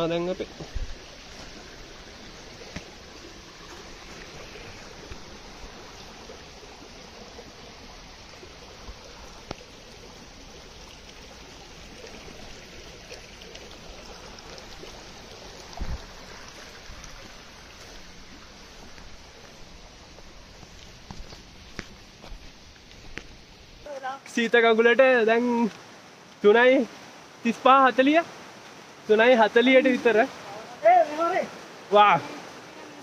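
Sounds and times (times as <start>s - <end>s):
stream flowing: 0.0s - 33.0s.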